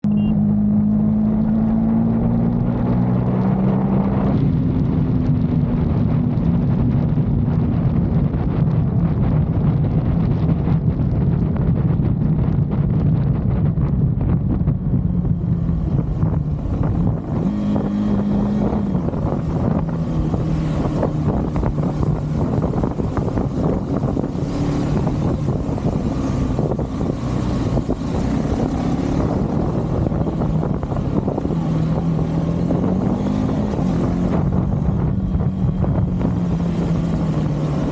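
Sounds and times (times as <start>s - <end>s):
motorcycle engine running: 0.0s - 37.9s
wind rushing over microphone: 0.0s - 37.9s.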